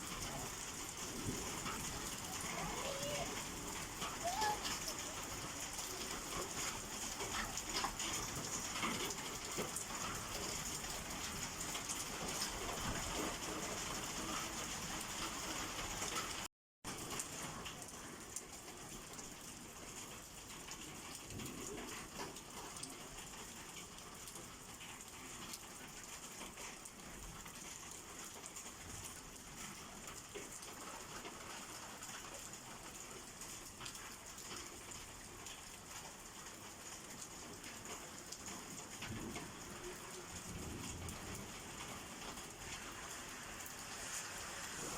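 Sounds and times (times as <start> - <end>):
rain falling: 0.0 - 44.9
raindrops pattering on surfaces: 0.0 - 44.9.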